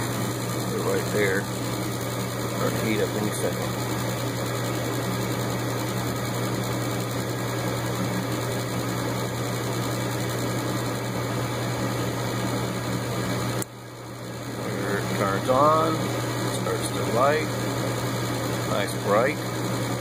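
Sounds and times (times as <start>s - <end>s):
furnace fan motor humming: 0.0s - 20.0s.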